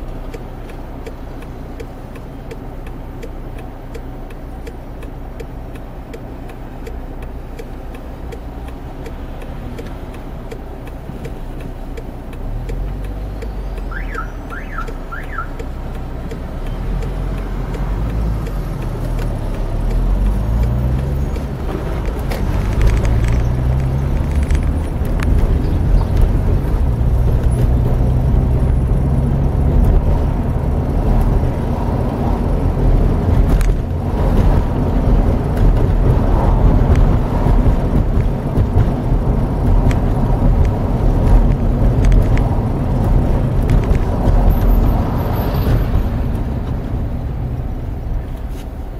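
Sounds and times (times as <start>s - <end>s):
car engine accelerating: 0.0s - 48.9s
road noise: 0.0s - 48.9s.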